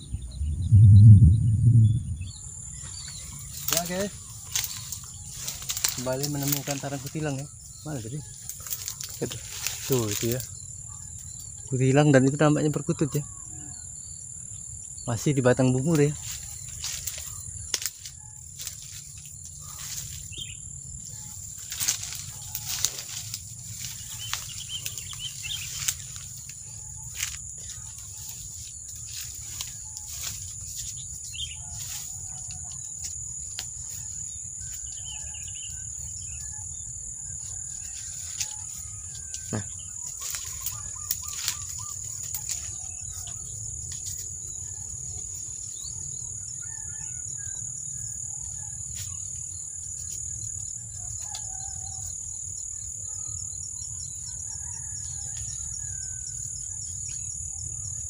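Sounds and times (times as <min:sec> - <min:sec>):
faint bird chirps: 0:00.0 - 0:58.0
high insect drone: 0:00.0 - 0:58.0.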